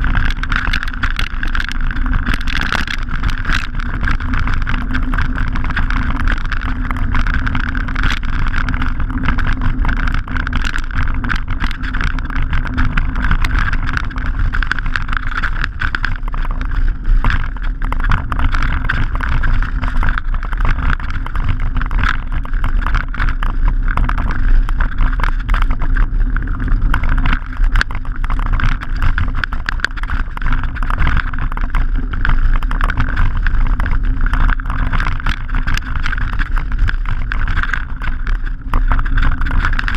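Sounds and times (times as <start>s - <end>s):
bike rattling: 0.0s - 39.9s
wind on microphone: 0.0s - 39.9s.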